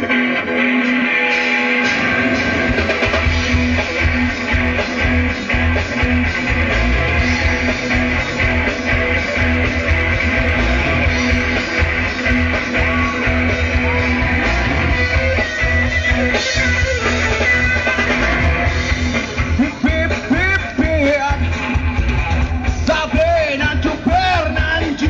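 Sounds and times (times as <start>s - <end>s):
instrumental rock music: 0.0s - 25.0s.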